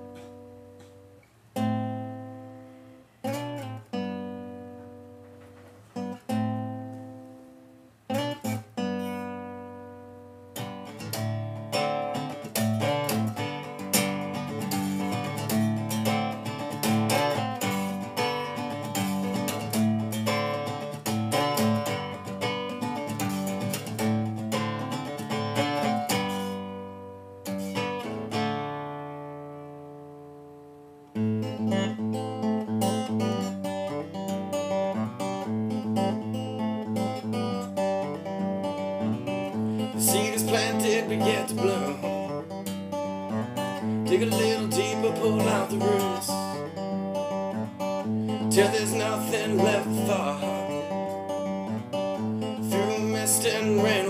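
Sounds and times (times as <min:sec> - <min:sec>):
solo acoustic guitar: 0:00.0 - 0:54.0.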